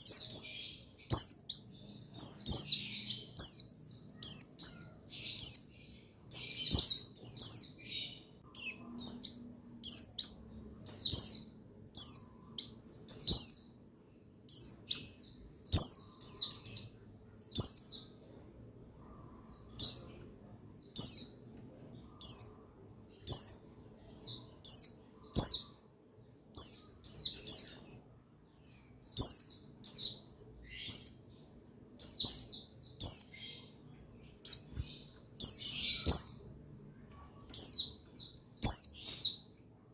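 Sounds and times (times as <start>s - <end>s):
bird twittering high chirps: 0.0s - 39.6s.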